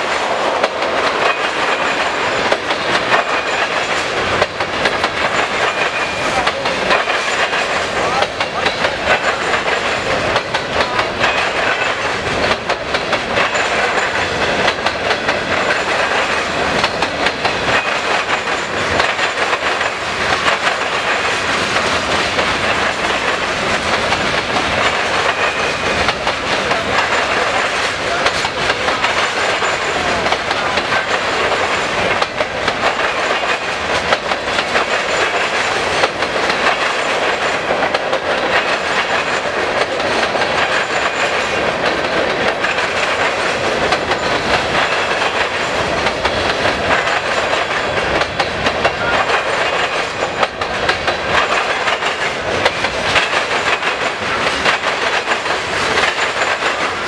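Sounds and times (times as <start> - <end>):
train wheels clattering: 0.0 - 57.0
wheel on rail noise: 0.0 - 57.0.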